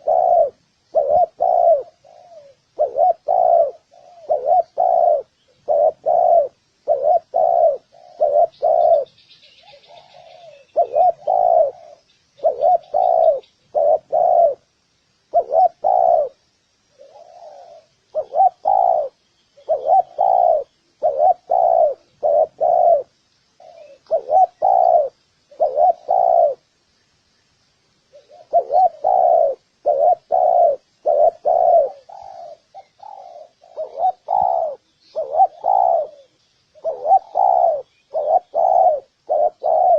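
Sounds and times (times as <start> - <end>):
dove cooing: 0.0 - 14.7, 15.3 - 26.7, 28.1 - 39.9.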